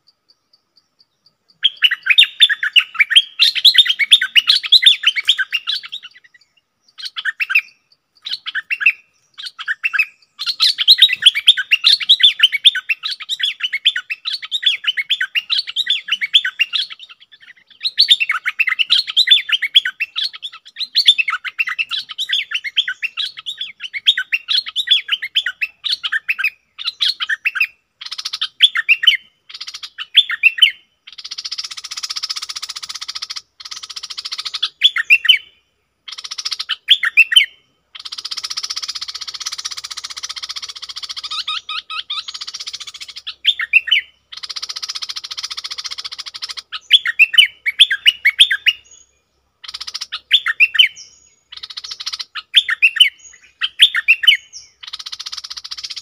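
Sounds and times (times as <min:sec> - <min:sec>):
bird singing chattering chirps: 0:00.0 - 0:56.0.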